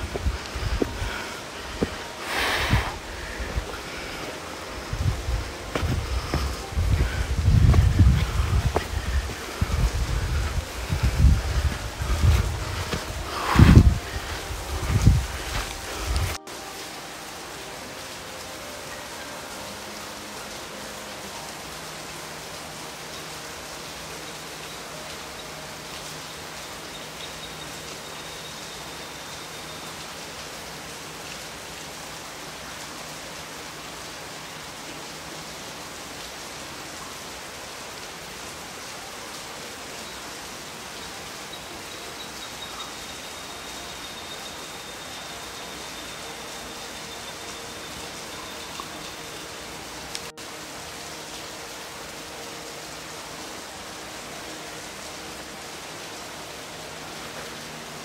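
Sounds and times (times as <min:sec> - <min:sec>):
water hissing: 0:00.0 - 0:52.6.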